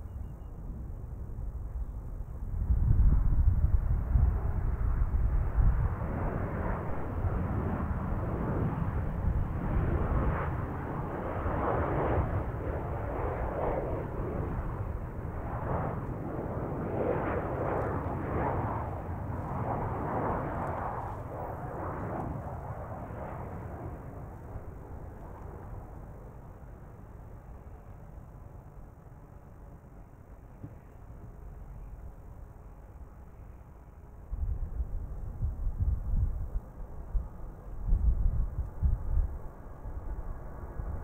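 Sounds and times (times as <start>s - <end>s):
jet engines: 0.0s - 41.0s.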